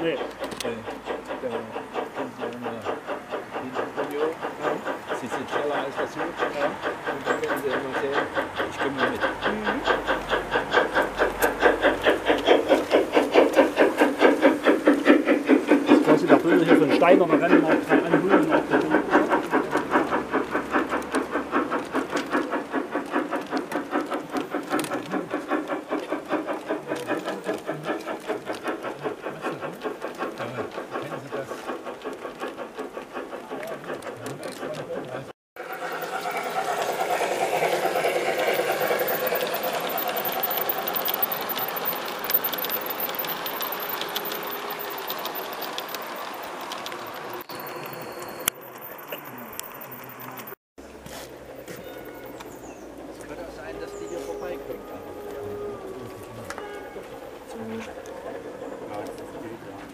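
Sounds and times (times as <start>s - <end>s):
model train running on track: 0.0s - 59.9s
wheels ticking: 0.0s - 59.9s.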